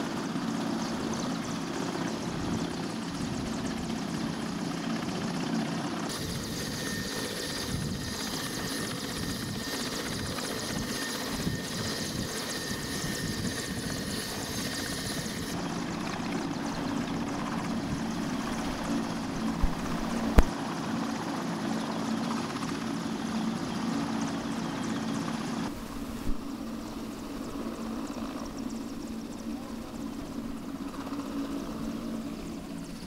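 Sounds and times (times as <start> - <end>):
helicopter engines and rotor running: 0.0 - 33.0.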